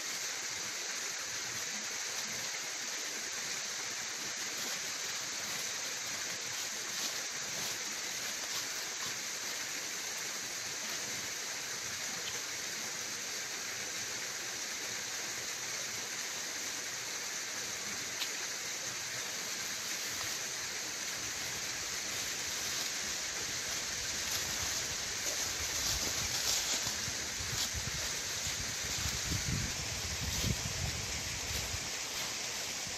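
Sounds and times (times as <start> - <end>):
waterfall splashing over rocks: 0.0 - 32.9.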